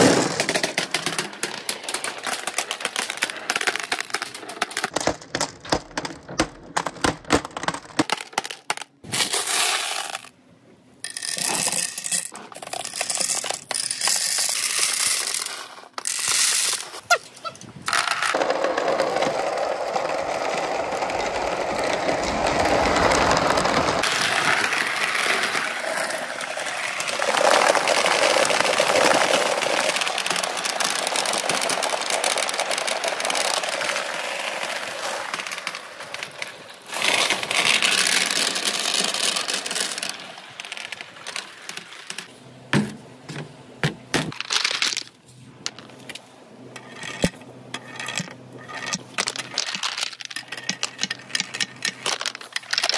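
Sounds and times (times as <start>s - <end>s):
balls clicking on track: 0.0s - 10.4s, 11.0s - 42.3s, 43.4s - 46.2s, 46.8s - 52.9s
balls rolling through bamboo tubes: 0.0s - 52.9s.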